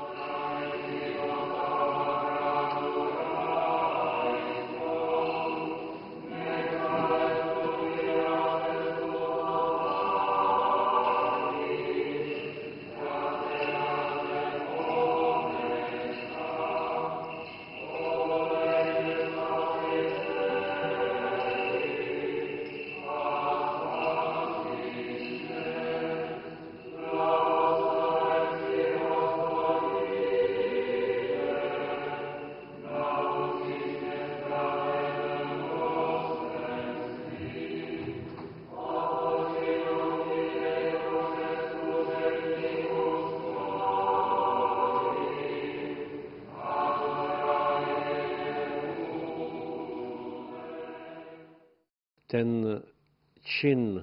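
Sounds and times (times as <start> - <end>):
church choir chanting: 0.0 - 51.9.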